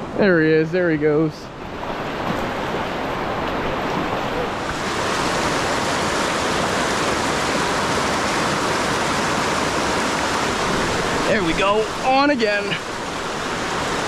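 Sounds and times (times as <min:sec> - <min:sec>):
river rushing through rapids: 0:01.5 - 0:14.0.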